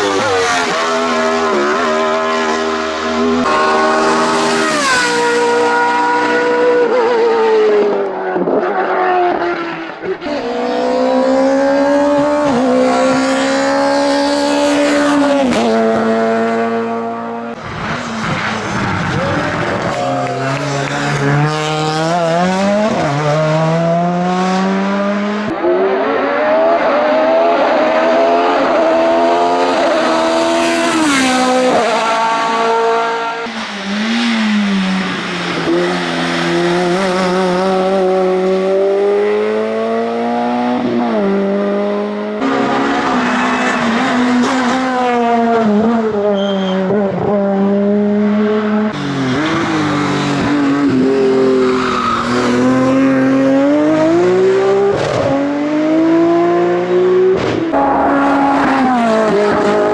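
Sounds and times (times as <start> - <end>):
race car engines at high revs: 0.0 - 59.9.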